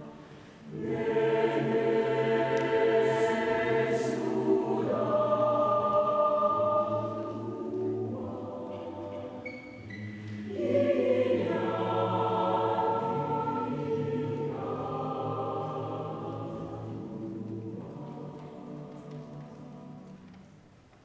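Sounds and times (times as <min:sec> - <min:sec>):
choir singing a cappella: 0:00.0 - 0:20.4.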